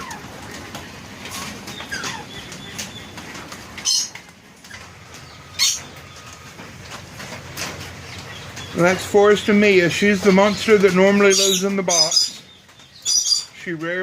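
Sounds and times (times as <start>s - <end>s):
wings flapping: 0.0s - 12.8s
parrots chirping: 0.0s - 13.8s.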